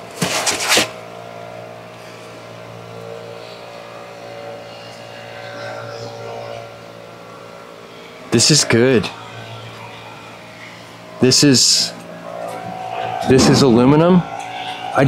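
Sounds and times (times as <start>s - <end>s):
engine-like drone: 0.0s - 15.0s.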